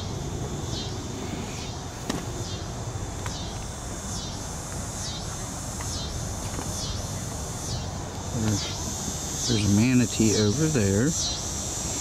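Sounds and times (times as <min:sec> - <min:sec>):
insect pulsed call: 0:00.0 - 0:12.0.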